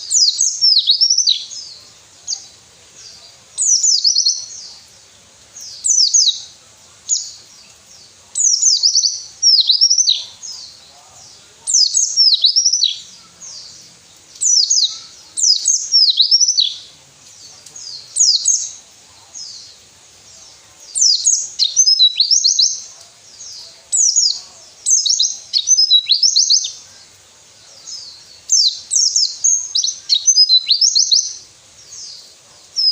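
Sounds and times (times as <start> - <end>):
white-eye bird song: 0.0 - 32.9.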